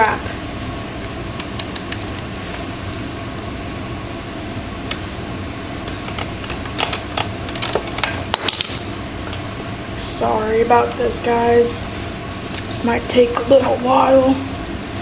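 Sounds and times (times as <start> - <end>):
air conditioning unit running: 0.0 - 15.0.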